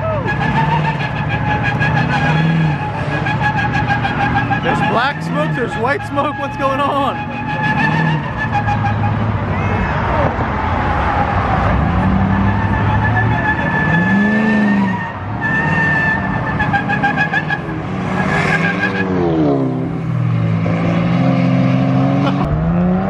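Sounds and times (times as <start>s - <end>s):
tires squealing on pavement: 0.0s - 23.0s
truck engine revving hard: 0.0s - 23.0s.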